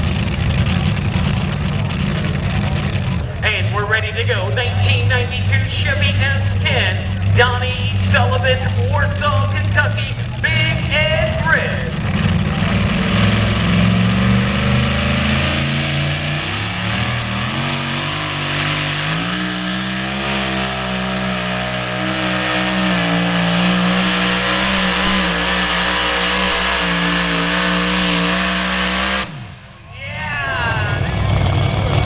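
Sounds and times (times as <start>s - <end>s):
truck engine at full throttle: 0.0s - 32.0s.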